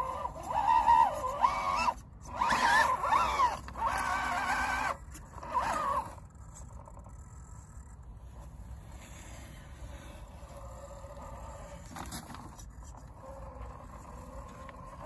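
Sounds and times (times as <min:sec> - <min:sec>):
electric motor whining: 0:00.0 - 0:07.1, 0:09.9 - 0:15.0.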